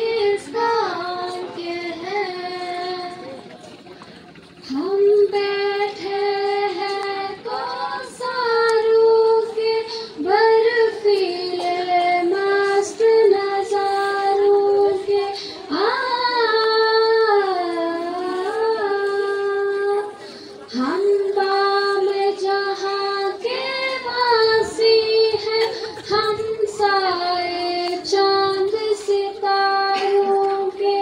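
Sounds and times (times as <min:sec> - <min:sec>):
girls singing into microphones: 0:00.0 - 0:03.2, 0:04.6 - 0:31.0.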